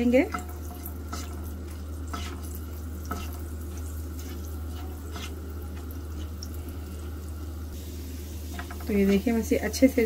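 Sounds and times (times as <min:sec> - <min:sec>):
spices sizzling in ghee: 0:00.0 - 0:10.0.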